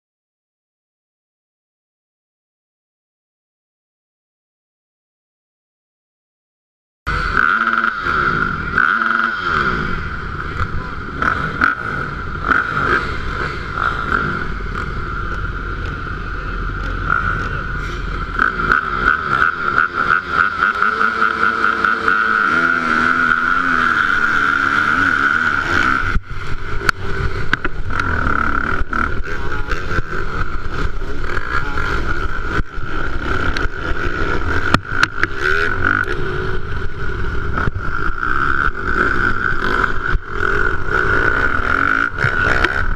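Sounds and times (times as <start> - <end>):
motocross bike engines revving: 7.1 - 42.9.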